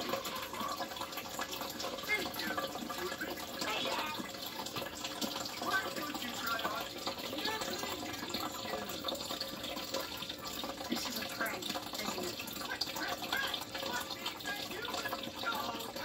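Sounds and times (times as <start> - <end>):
aquarium water running: 0.0 - 16.0
faint muffled voices: 0.0 - 16.0.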